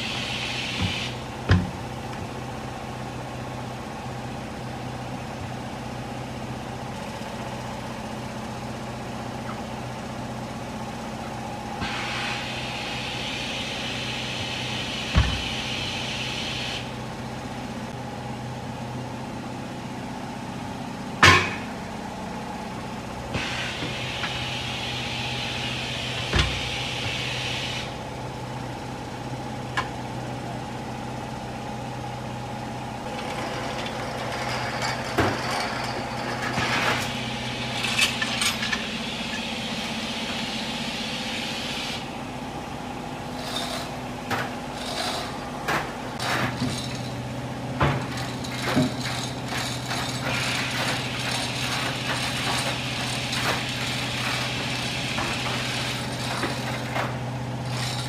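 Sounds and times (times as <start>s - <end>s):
workshop machinery humming: 0.0s - 58.0s.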